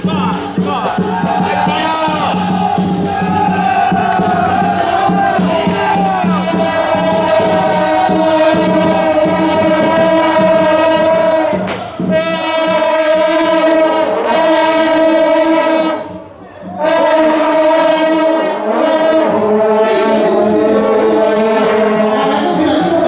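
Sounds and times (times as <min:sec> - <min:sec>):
wind instruments procession music: 0:00.0 - 0:23.0.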